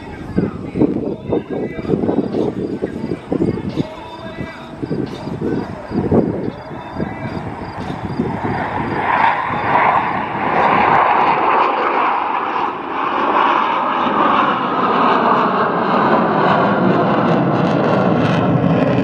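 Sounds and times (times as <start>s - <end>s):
rushing jet engine noise: 0.0s - 19.0s.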